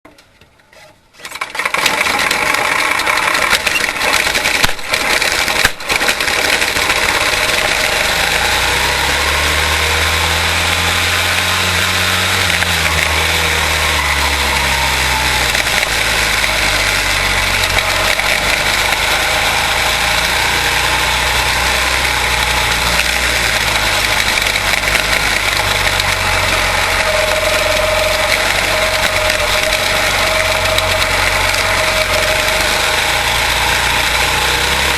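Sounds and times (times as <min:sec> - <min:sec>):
engine pitch rising and falling: 0:01.5 - 0:34.9
race car engines buzzing: 0:01.7 - 0:34.9.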